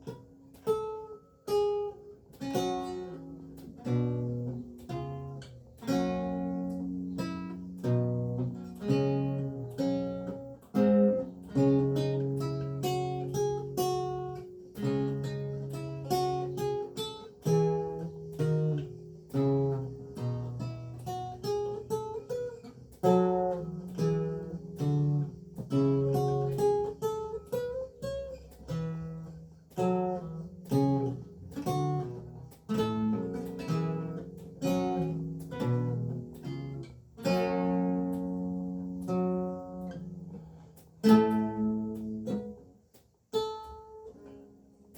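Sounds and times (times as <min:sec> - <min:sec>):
lute playing plucked notes: 0:00.0 - 0:44.9.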